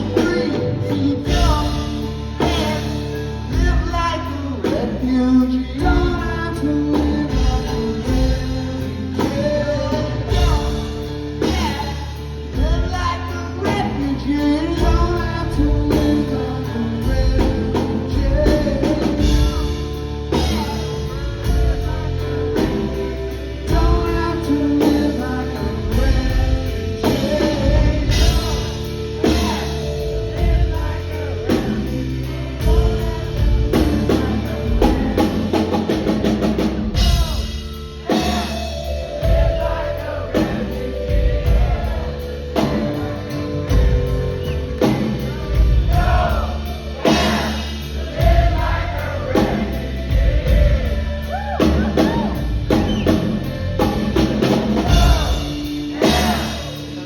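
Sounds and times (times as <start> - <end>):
live rock band playing: 0.0 - 57.0
person singing: 0.0 - 57.0.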